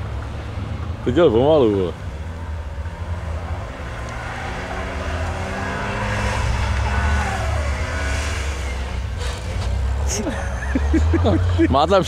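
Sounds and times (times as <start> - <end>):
distant race car engines revving: 0.0 - 12.0.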